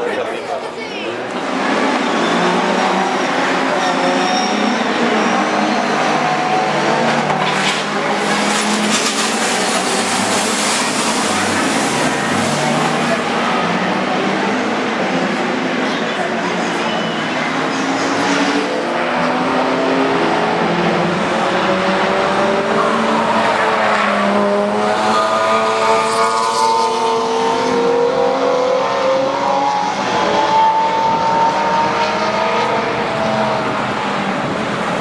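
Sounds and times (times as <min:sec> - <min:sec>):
race car engines revving: 0:00.6 - 0:35.0.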